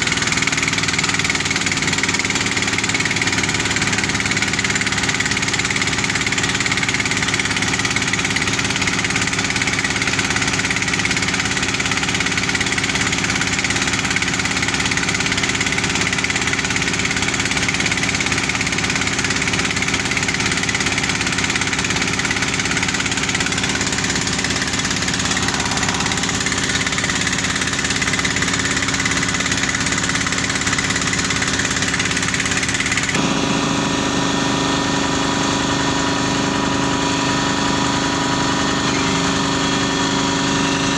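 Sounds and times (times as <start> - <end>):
drilling rig engines running: 0.0 - 40.9
water pump running: 0.0 - 40.9.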